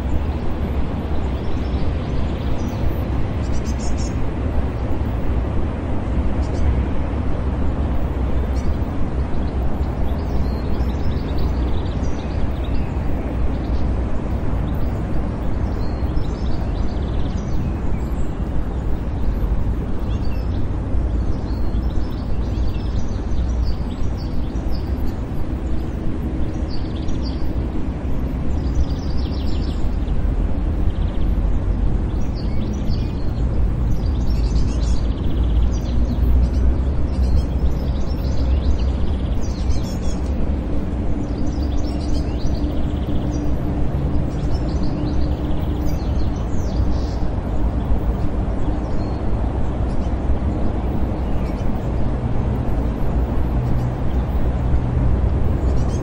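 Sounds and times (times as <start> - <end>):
small birds chirping: 0.0 - 5.6, 6.2 - 56.0
distant traffic rumble: 0.0 - 56.0.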